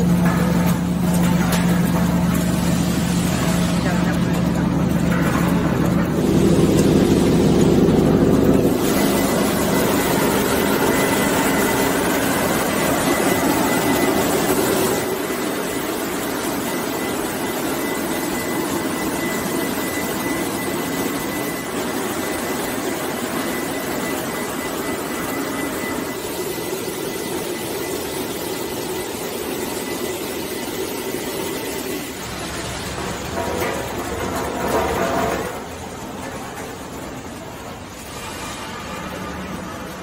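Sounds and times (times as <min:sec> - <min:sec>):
production line machinery: 0:00.0 - 0:40.0.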